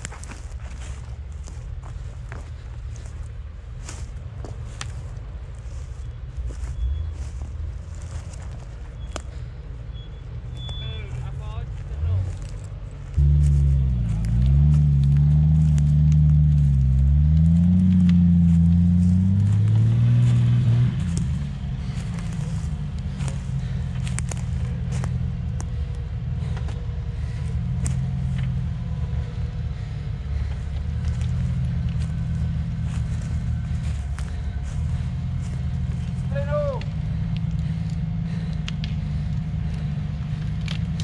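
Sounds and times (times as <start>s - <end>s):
twigs snapping under tyres: 0.0s - 3.2s, 3.8s - 5.9s, 6.5s - 9.5s, 10.5s - 41.0s
car engine under load: 0.0s - 41.0s.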